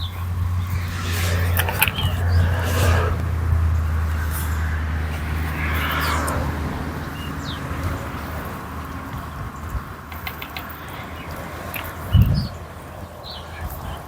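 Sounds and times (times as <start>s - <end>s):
low engine hum: 0.0s - 12.7s.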